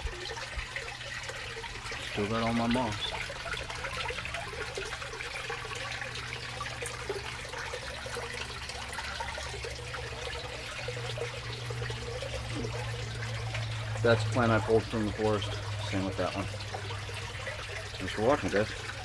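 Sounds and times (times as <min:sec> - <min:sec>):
waterfall splashing and trickling: 0:00.0 - 0:19.0.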